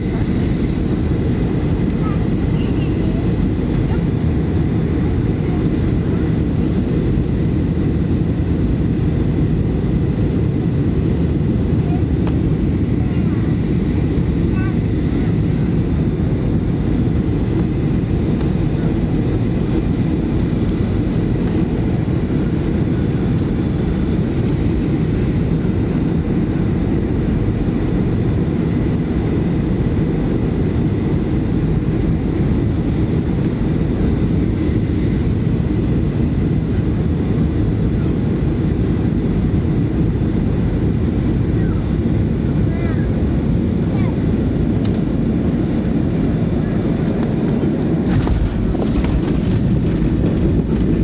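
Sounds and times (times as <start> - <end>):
jet engine rumble: 0.0 - 51.0.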